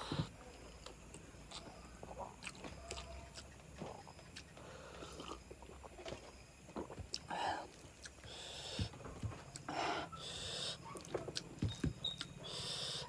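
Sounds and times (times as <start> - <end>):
soft close chewing: 0.1 - 13.0.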